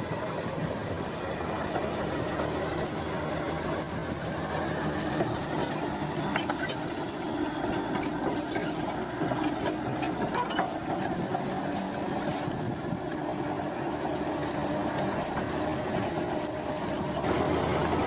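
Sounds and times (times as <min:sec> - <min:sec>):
diesel machine engine running: 0:00.0 - 0:18.0.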